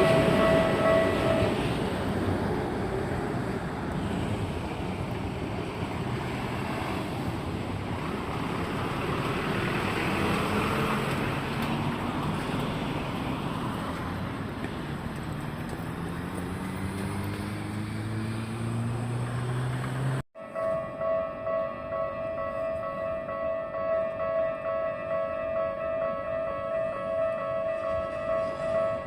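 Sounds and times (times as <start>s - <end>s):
electric train running by: 0.0s - 29.0s.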